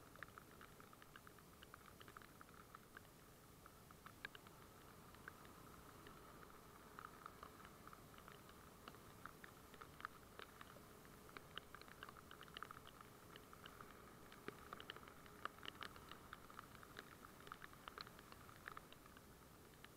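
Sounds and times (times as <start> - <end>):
faint steady hum: 0.0 - 19.9
raindrops tapping on camera housing: 0.0 - 19.9.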